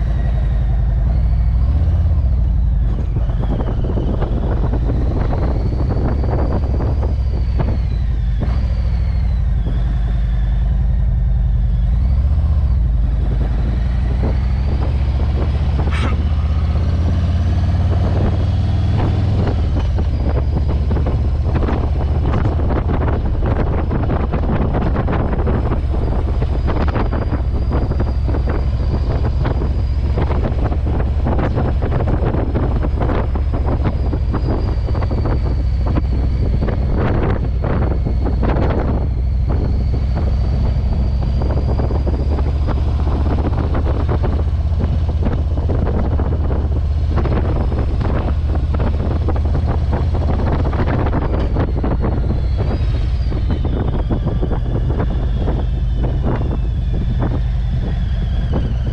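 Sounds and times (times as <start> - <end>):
motorcycle engine rumble: 0.0 - 58.9
wind buffeting microphone: 0.0 - 58.9.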